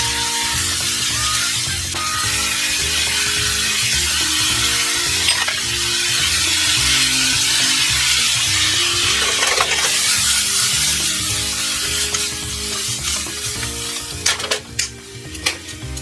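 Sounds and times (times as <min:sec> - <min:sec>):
food sizzling in frying pan: 0:00.0 - 0:16.0.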